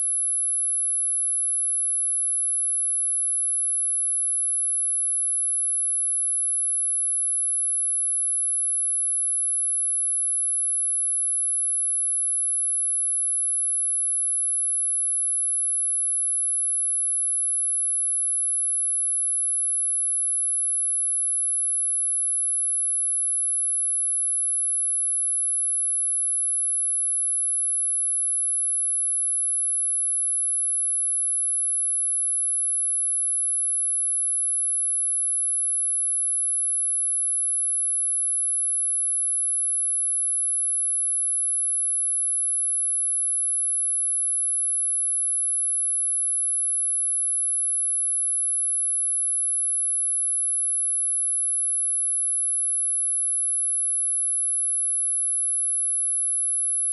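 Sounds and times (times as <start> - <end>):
high-pitched sine test tone: 0.0 - 56.9.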